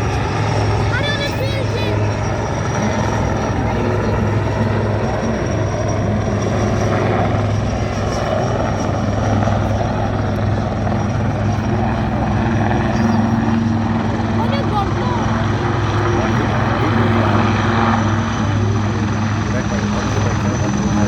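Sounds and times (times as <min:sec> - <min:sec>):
helicopter rotor and engine drone: 0:00.0 - 0:21.0.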